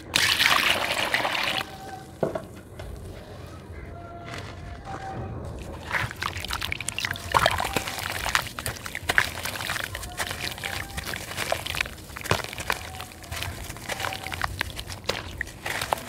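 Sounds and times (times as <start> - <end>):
small crackles and splashes: 0.0 - 3.2, 5.4 - 16.0
water sloshing: 0.0 - 4.8, 5.4 - 16.0.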